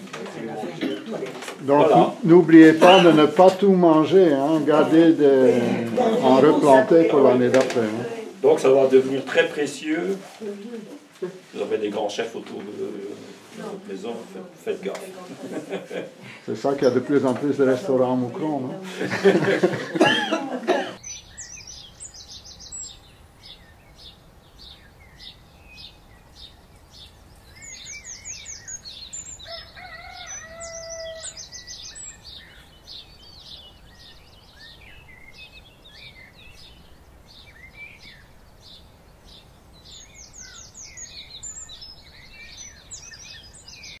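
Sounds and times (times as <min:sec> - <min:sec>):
birds chirping and singing: 0:00.0 - 0:20.0, 0:21.0 - 0:44.0
faint steady background noise: 0:00.0 - 0:44.0.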